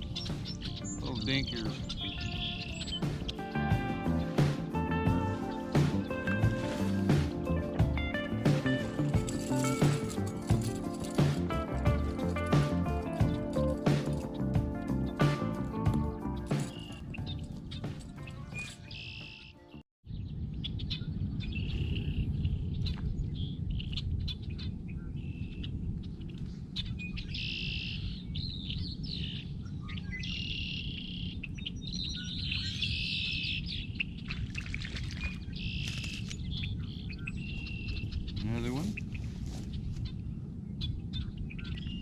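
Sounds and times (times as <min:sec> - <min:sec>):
birds singing and chirping: 0:00.0 - 0:42.0.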